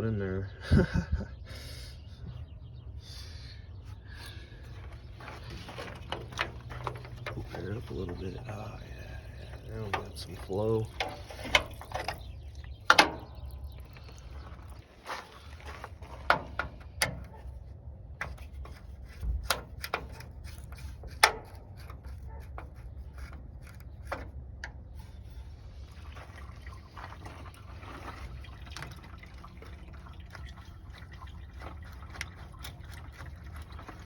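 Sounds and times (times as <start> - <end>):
coolant trickling: 4.1 - 34.0.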